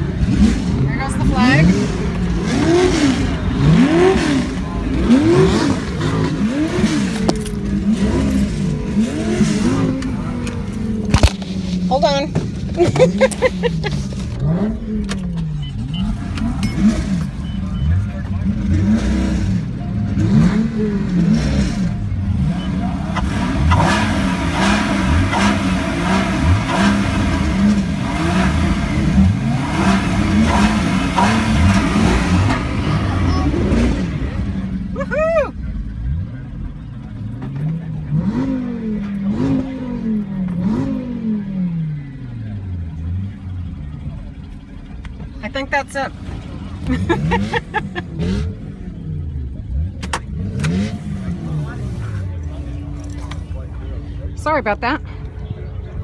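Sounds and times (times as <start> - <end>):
car engines revving: 0.0 - 56.0
engines idling: 0.0 - 56.0.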